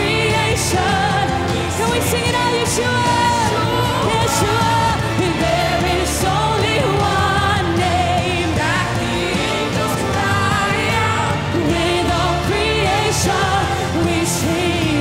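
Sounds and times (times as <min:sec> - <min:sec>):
band with drums and bass: 0:00.0 - 0:15.0
women singing: 0:00.0 - 0:15.0.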